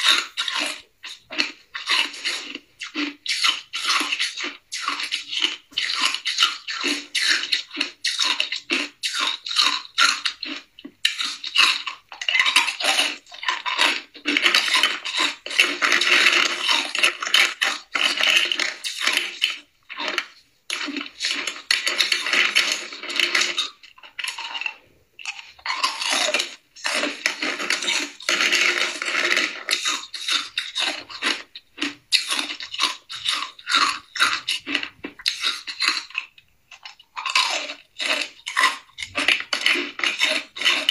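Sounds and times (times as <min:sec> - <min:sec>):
ice cubes being chewed: 0:00.0 - 0:40.9
spoon scraping through ice cubes: 0:00.0 - 0:40.9.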